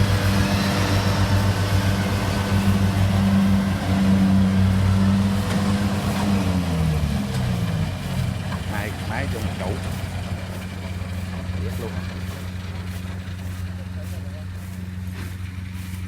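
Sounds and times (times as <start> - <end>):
combine harvester diesel engine: 0.0 - 16.0.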